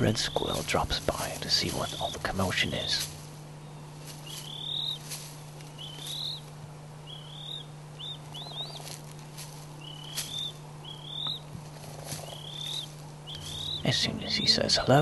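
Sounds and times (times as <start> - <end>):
bird chirping: 0.0 - 15.0
steady low hum: 0.0 - 15.0.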